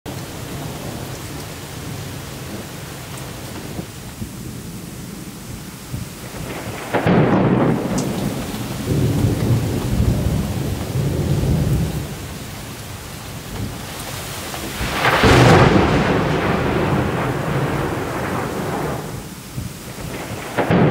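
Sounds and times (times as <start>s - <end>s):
rain falling: 0.0s - 20.9s
thunder rumbling: 0.1s - 20.9s.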